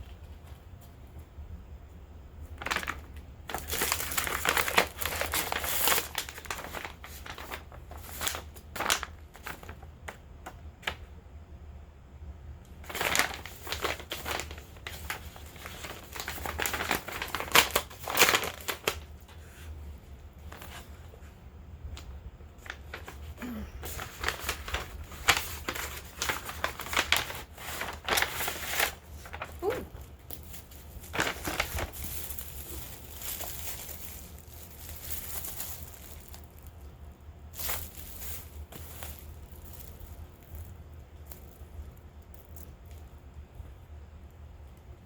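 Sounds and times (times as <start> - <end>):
packaging crinkling and rustling: 2.4 - 11.1, 12.8 - 21.3, 21.9 - 43.7.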